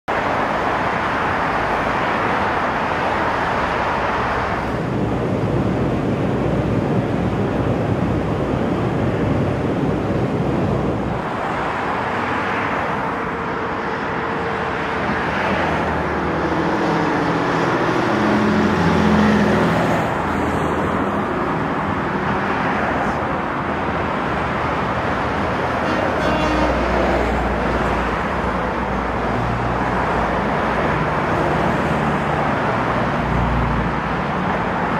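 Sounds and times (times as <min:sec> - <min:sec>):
cars passing: 0:00.1 - 0:34.9
heavy engine passing: 0:00.1 - 0:34.9.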